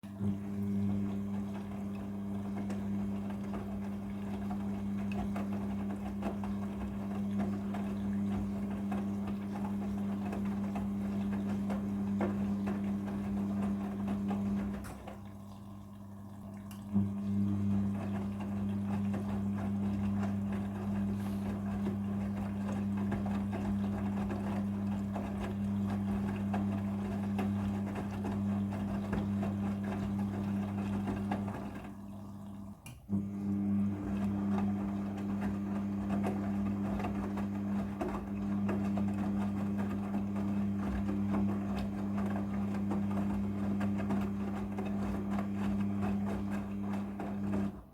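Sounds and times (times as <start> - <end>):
washing machine hum: 0.0 - 47.9.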